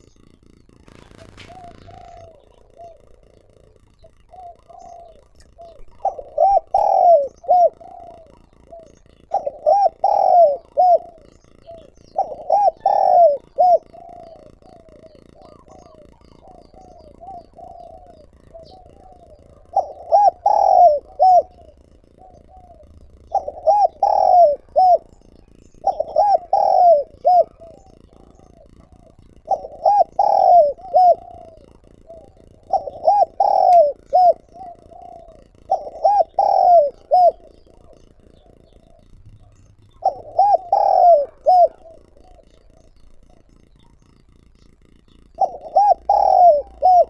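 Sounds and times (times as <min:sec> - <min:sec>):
dove cooing: 0:00.0 - 0:47.0.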